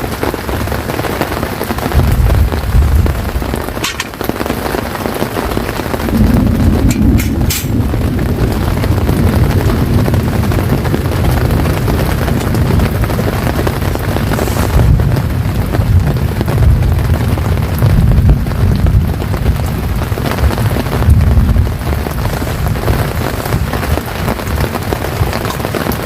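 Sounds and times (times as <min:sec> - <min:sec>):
rain hissing: 0:00.0 - 0:26.0
wind buffeting microphone: 0:00.0 - 0:26.0.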